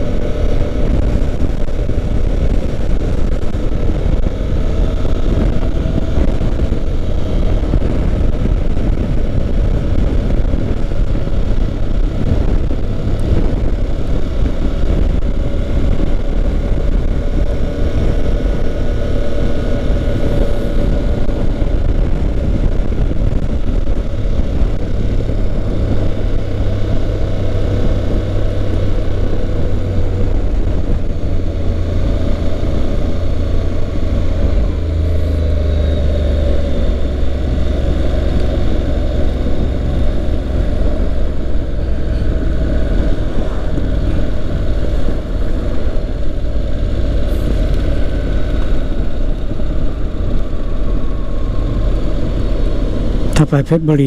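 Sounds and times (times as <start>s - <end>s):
motorcycle engine rumble: 0.0s - 54.0s
road noise: 0.0s - 54.0s.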